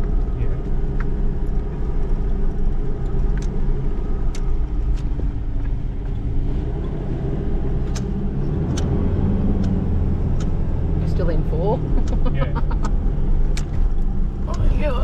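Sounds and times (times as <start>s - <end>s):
vehicle engine running at low speed: 0.0s - 15.0s.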